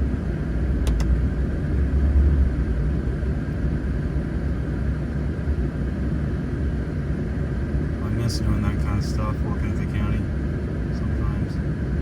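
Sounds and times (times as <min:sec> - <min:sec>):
vehicle rumble from inside cab: 0:00.0 - 0:12.0.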